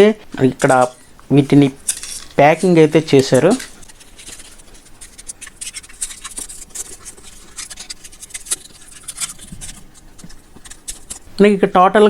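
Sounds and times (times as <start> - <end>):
plastic packaging crinkling: 0.4 - 11.4.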